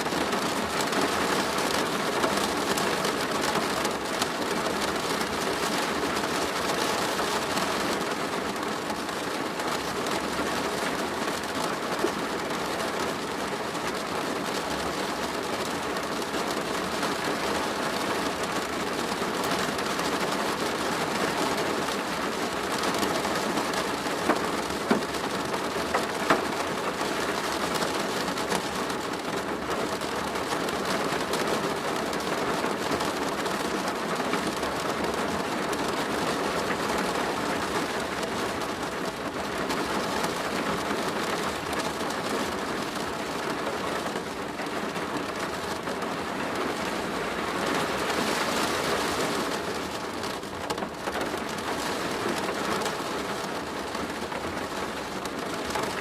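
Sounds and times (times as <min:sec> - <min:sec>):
rain on a plastic roof: 0:00.0 - 0:56.0.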